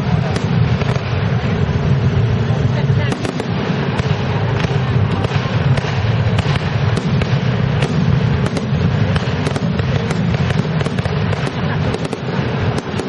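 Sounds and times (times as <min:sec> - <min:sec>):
fireworks bangs and crackles: 0:00.0 - 0:13.0
steady low rumble: 0:00.0 - 0:13.0.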